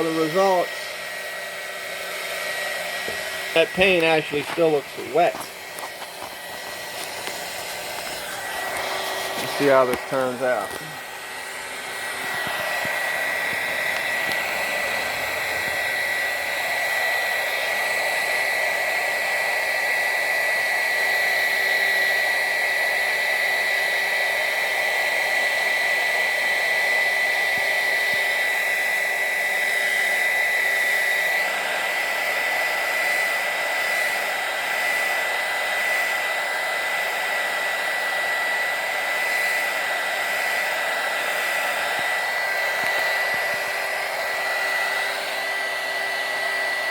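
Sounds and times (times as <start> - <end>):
heat gun blowing air: 0.0 - 46.9.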